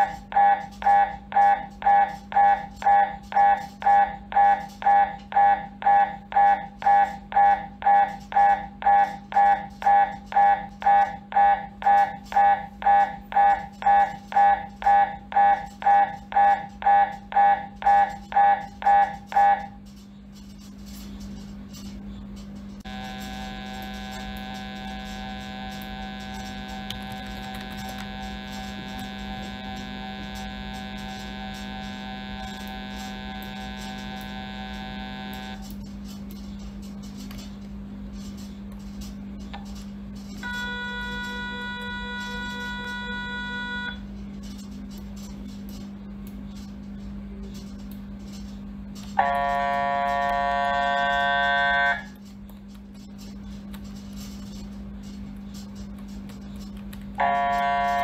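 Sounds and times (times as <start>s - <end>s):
mri scanner buzzing tone: 0.0s - 37.6s, 38.2s - 58.0s
low steady hum: 0.0s - 58.0s
mri scanner pulsing: 0.0s - 58.0s.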